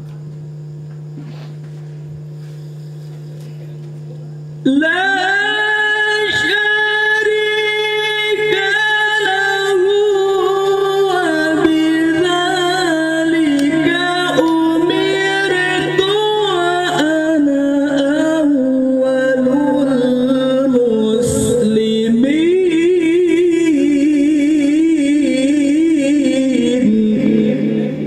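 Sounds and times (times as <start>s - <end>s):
boy reciting melodically through pa: 4.6s - 28.0s.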